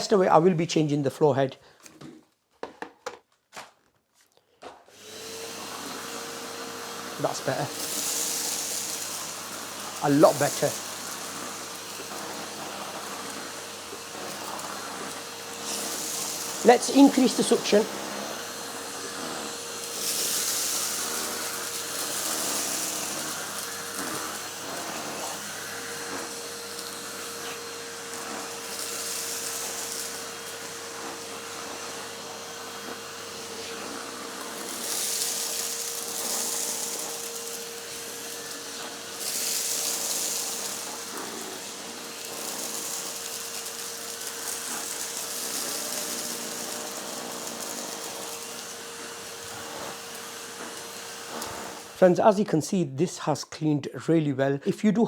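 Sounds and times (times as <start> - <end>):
vacuum cleaner running: 4.6 - 53.0.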